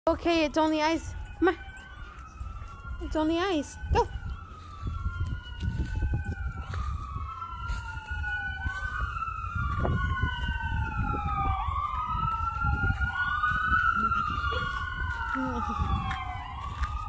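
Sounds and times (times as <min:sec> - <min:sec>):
sirens wailing: 0:00.1 - 0:17.0.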